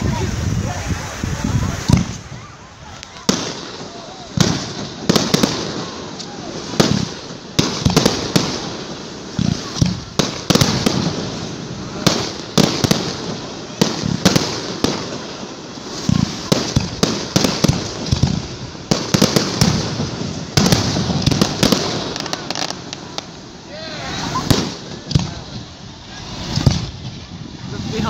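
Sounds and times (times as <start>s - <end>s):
fireworks bursting with echoes: 0.0s - 28.0s.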